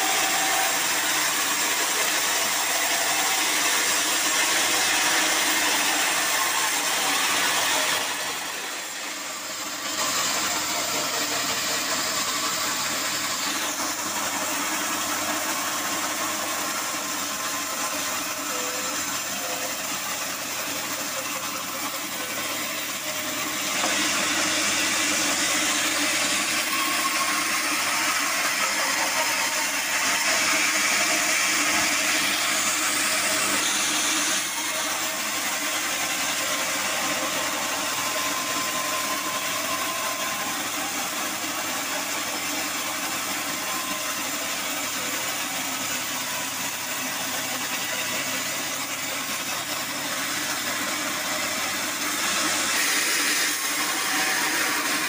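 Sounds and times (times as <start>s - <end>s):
band saw cutting wood: 0.0s - 55.0s
sawmill machine hum: 0.0s - 55.0s.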